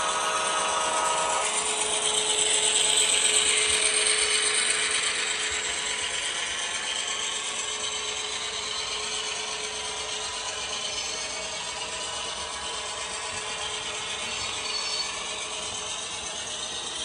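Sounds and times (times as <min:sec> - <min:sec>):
model train motor whirring: 0:00.0 - 0:17.0
wheels rattling on rails: 0:00.0 - 0:17.0.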